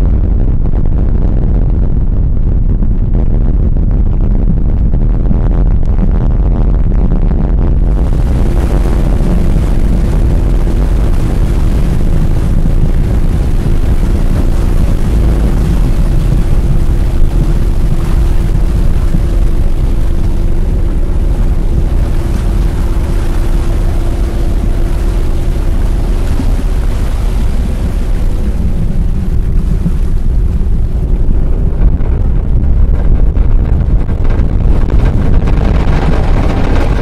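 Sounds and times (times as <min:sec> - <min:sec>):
low rumbling drone: 0:00.0 - 0:37.0.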